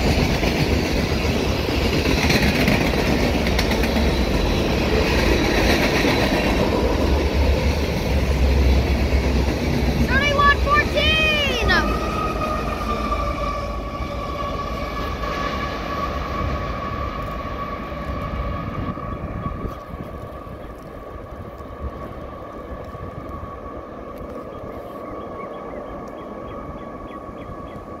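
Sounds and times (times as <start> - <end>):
freight train rumbling: 0.0 - 28.0.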